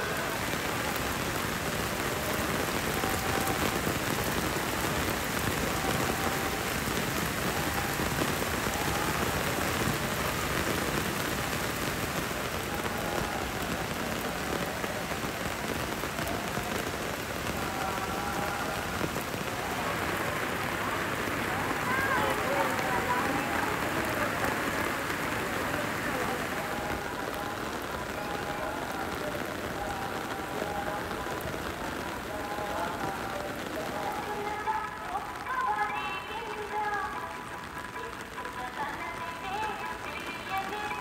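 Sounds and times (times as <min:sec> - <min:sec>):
heavy rain on paved ground: 0:00.0 - 0:41.0.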